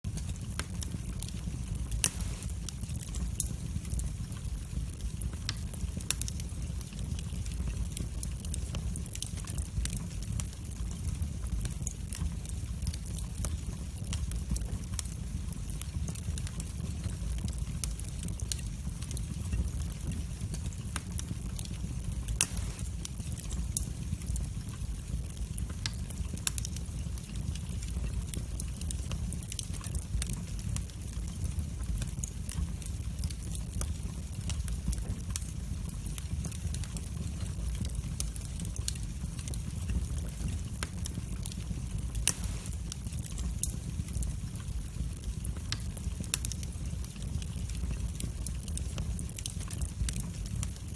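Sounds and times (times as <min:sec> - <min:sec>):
fire crackling and popping: 0:00.0 - 0:50.9
fire rumbling: 0:00.0 - 0:50.9.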